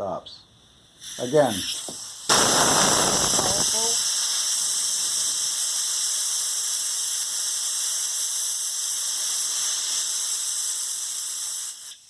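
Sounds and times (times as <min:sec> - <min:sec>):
compressed air hissing: 0:00.6 - 0:12.0.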